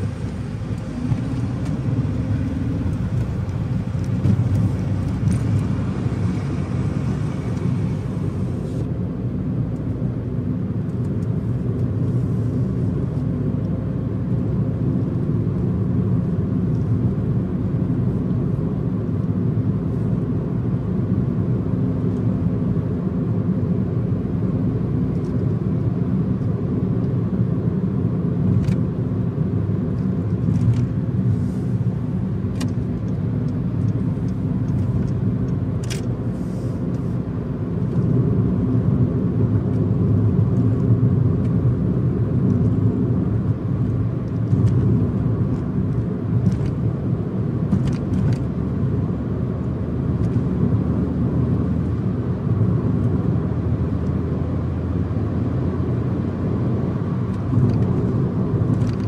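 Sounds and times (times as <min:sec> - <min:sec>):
car driving at highway speed: 0:00.0 - 0:59.0.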